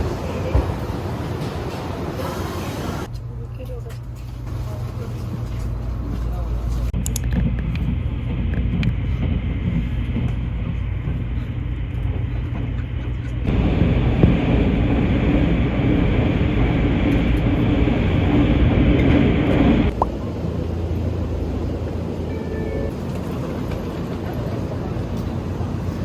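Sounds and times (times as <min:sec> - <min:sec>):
moving vehicle rumble: 0:00.0 - 0:26.0.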